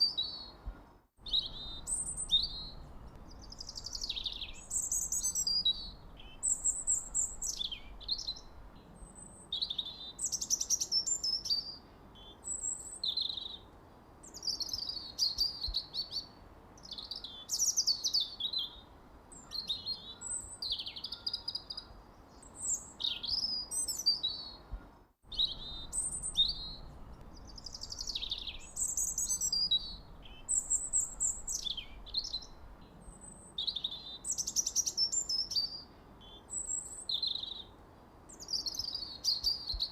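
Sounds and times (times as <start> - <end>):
faint steady hiss: 0.0 - 39.9
songbirds chirping and singing: 0.0 - 39.9.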